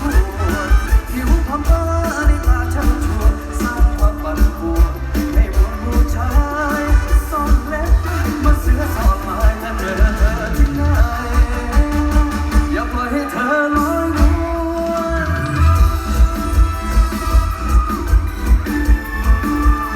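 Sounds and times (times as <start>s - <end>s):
heavy bass beat: 0.0s - 19.9s.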